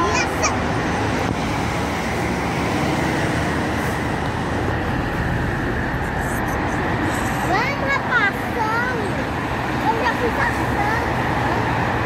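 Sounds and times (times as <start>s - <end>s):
highway traffic: 0.0s - 12.0s.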